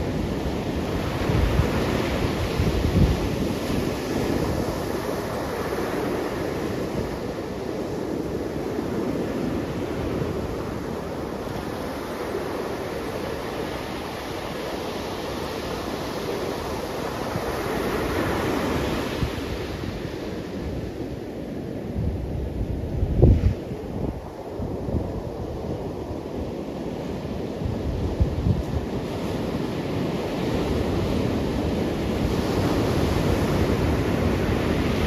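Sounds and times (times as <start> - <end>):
waves washing up a beach: 0.0 - 35.0.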